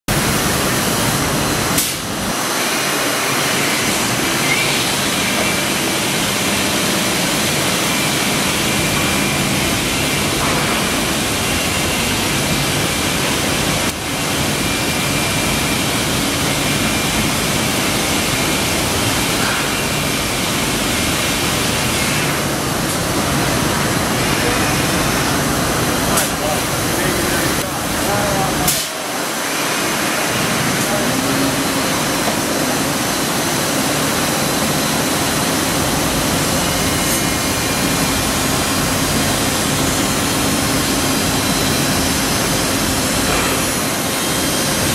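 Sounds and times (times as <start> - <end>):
woodworking machine rushing noise: 0.1 - 44.9.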